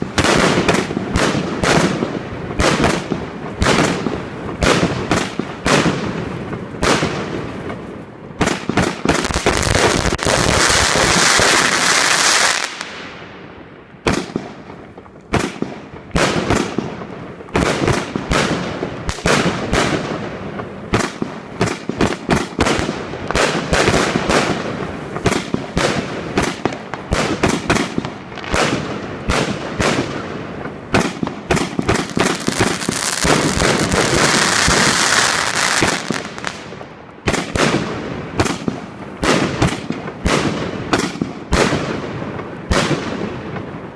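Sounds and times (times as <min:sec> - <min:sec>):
firework bangs and pops: 0:00.0 - 0:13.3, 0:14.0 - 0:43.9
firework crackling: 0:00.0 - 0:43.9.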